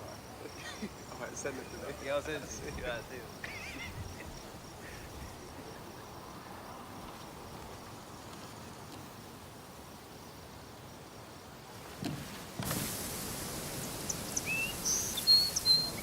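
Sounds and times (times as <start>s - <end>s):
background hiss: 0.0s - 16.0s
insect chirping: 0.0s - 16.0s.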